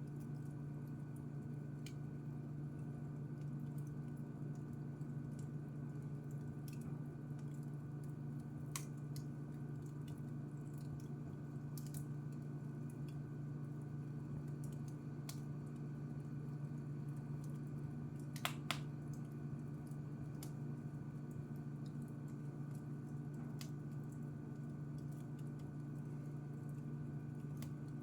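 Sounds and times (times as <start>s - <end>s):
wood fire crackling: 0.1s - 28.0s.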